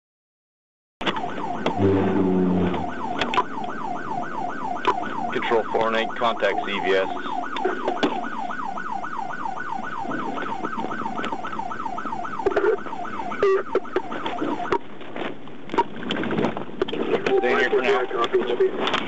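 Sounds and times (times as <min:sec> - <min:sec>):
police siren yelping: 0:01.0 - 0:14.9, 0:17.2 - 0:18.8.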